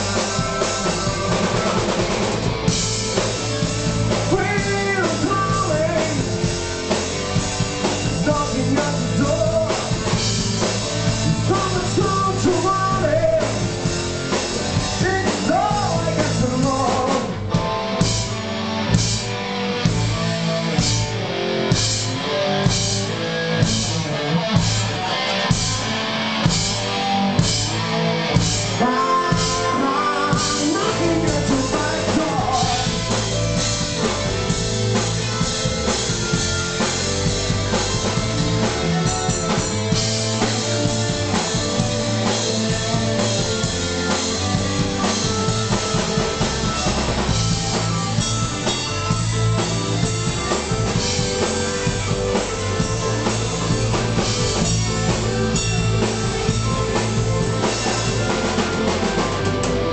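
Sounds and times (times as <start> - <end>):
drum kit: 0.0 - 59.9
electric guitar: 0.0 - 59.9
rock band playing live: 0.0 - 59.9.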